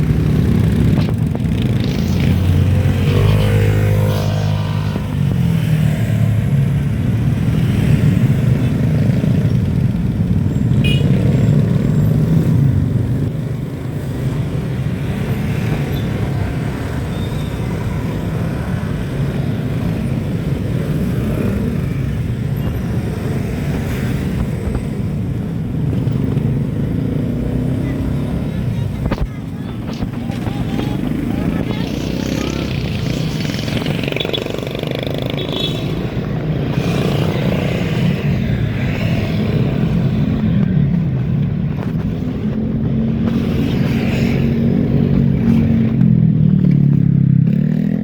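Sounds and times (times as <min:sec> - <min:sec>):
road and wind noise: 0:00.0 - 0:48.0.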